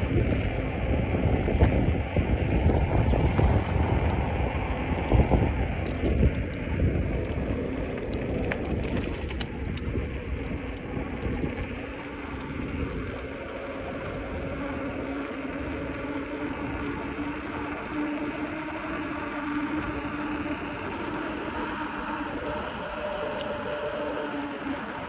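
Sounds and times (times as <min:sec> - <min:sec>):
road and tyre noise: 0:00.0 - 0:25.0
steady hum: 0:00.0 - 0:25.0
wind rumbling on microphone: 0:00.0 - 0:25.0.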